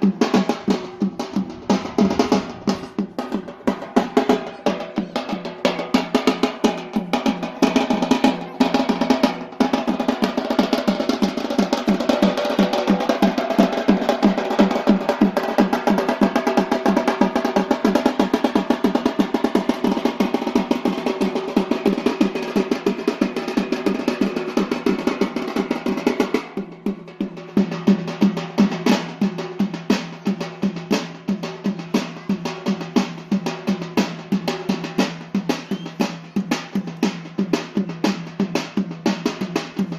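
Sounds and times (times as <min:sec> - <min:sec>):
drums beating a fast rhythm: 0:00.0 - 0:39.9.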